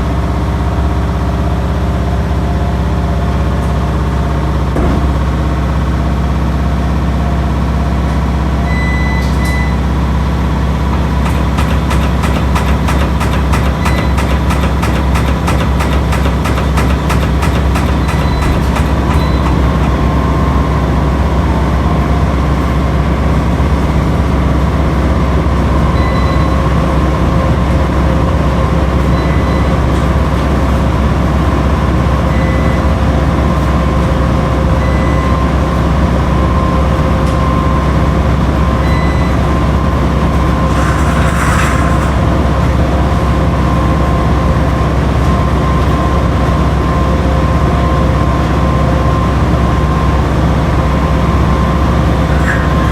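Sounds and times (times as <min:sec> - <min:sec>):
washing machine humming: 0:00.0 - 0:52.9.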